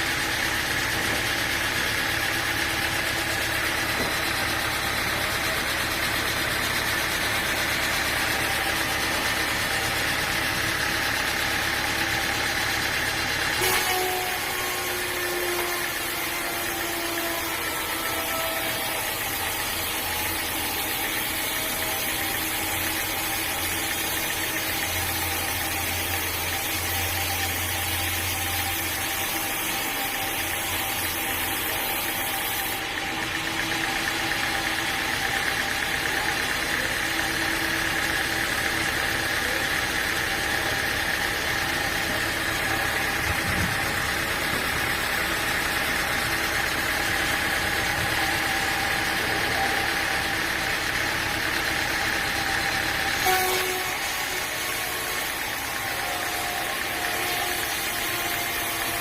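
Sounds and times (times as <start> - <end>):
sawmill engine running: 0.0 - 59.0.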